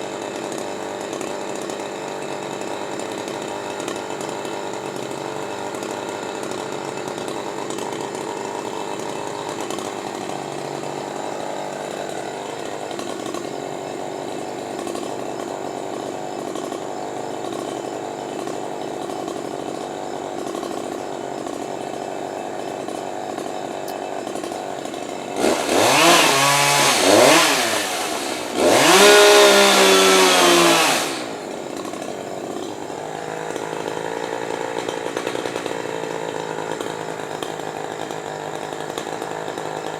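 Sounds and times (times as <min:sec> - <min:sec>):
chainsaw running and revving: 0:00.0 - 0:39.9.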